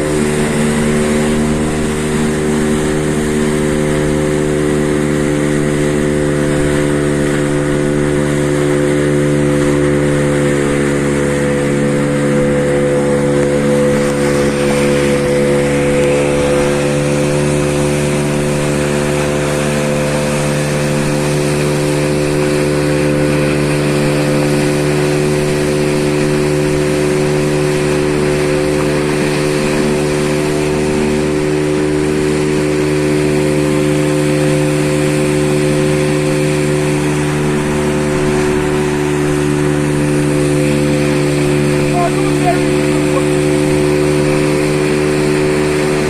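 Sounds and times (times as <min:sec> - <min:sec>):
boat engine droning: 0:00.0 - 0:46.0.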